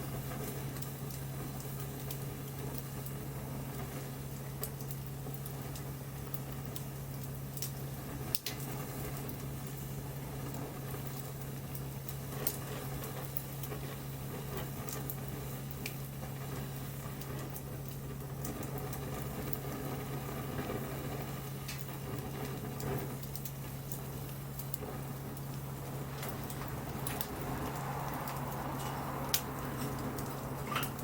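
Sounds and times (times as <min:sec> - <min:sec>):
steady low hum: 0:00.0 - 0:31.0
wood fire crackling and popping: 0:00.0 - 0:31.0.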